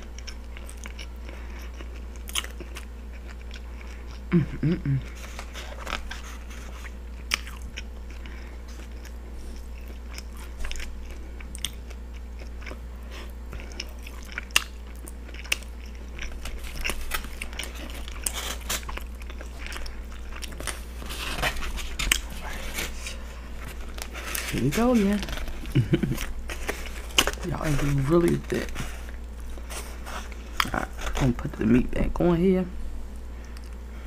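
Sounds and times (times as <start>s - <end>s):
chewing food close up: 0.0s - 4.3s, 5.0s - 31.4s
steady low hum: 0.0s - 34.0s.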